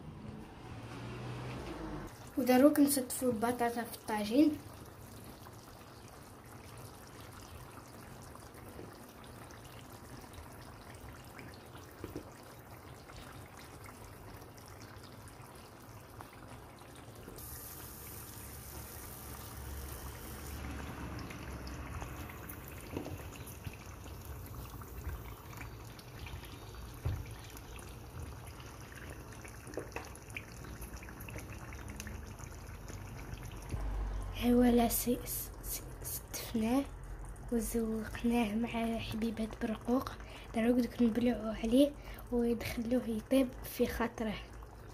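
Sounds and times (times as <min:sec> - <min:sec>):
food simmering in a pot: 0:00.0 - 0:44.9.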